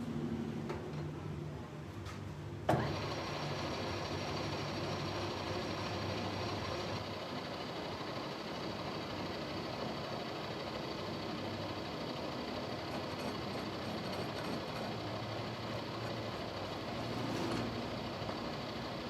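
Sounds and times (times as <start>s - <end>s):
workshop machine running: 0.0s - 19.0s.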